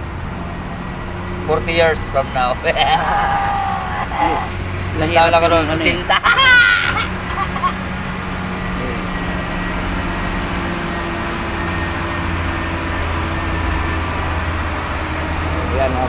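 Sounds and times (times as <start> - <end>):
steady engine drone: 0.0 - 16.0.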